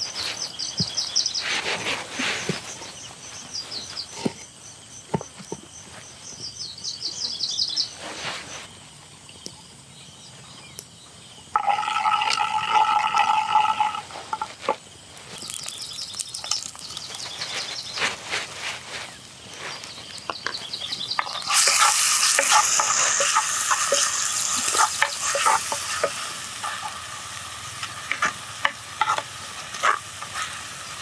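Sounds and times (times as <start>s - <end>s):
small birds chirping: 0.0s - 11.6s, 15.0s - 31.0s.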